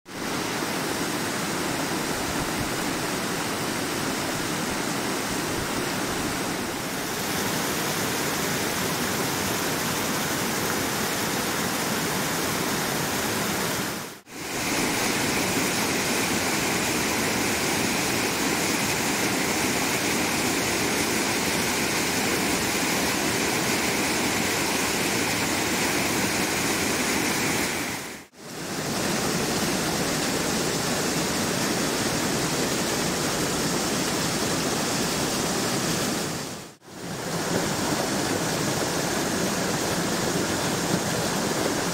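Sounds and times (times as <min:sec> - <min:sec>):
stream rushing over rocks: 0:00.1 - 0:41.9.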